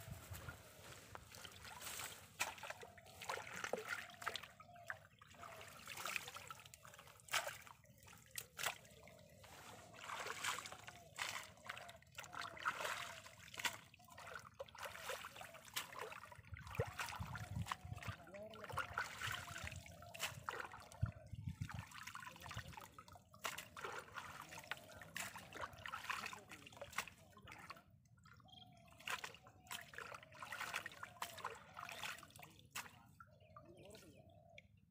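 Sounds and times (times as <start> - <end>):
muddy water splashing: 0.1 - 34.6.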